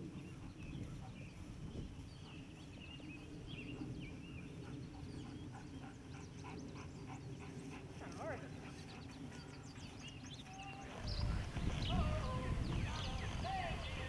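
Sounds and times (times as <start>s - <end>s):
birds chirping faintly: 0.0s - 14.0s
low outdoor rumble: 0.0s - 14.0s.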